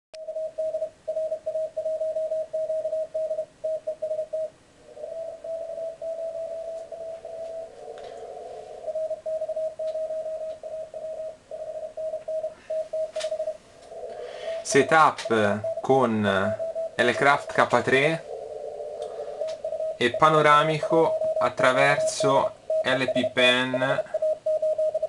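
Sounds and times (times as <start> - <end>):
lower-pitched morse code beeps: 0.2 - 25.0
morse code beeps: 0.2 - 25.0
faint radio band hiss: 0.6 - 25.0.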